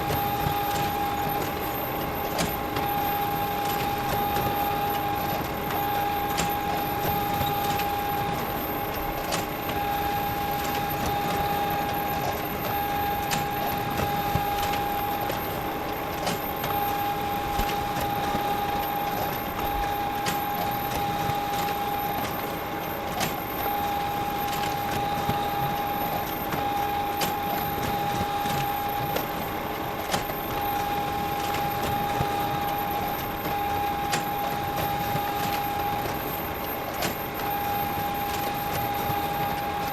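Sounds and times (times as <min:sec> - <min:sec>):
photocopier humming: 0:00.0 - 0:39.9
photocopier whine: 0:00.0 - 0:39.9.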